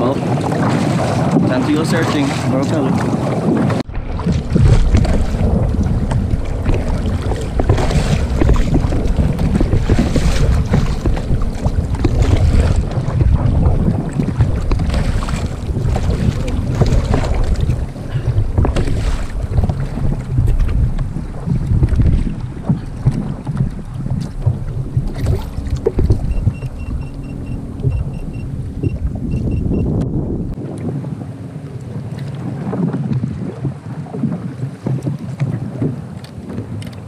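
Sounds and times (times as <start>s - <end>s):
sea water splashing against kayak: 0.0s - 37.0s
wind buffeting microphone: 0.0s - 37.0s.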